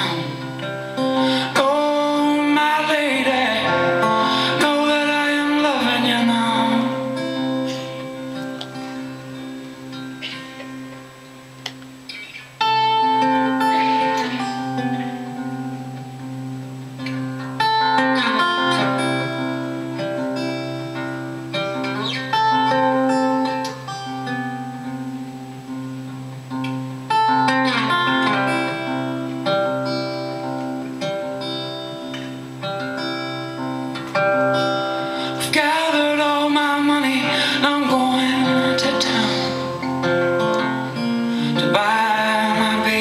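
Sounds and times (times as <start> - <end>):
acoustic guitar picking: 0.0 - 43.0.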